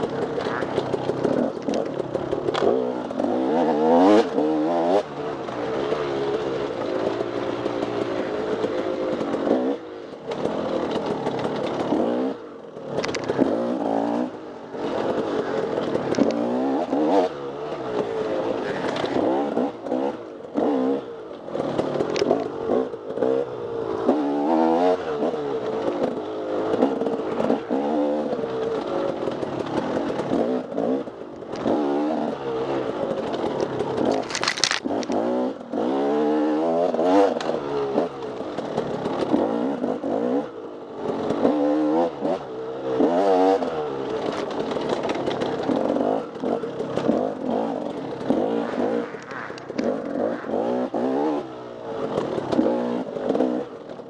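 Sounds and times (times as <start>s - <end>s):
dirt bike engine revving: 0.0s - 53.8s
bike rattling over rough ground: 0.0s - 54.0s.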